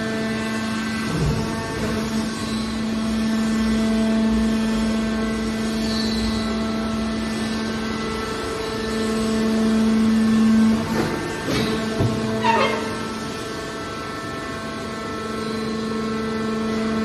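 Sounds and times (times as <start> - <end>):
hydraulic baler humming: 0.0 - 17.0.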